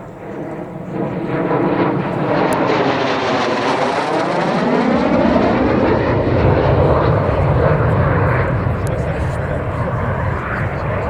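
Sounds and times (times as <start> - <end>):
jet engine passing: 0.0 - 11.0.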